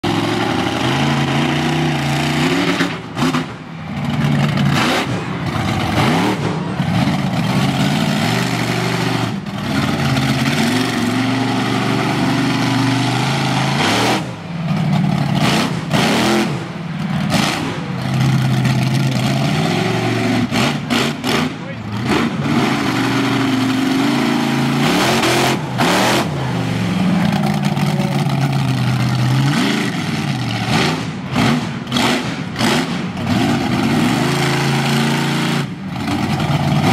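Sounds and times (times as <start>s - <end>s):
truck engine revving: 0.0s - 36.9s.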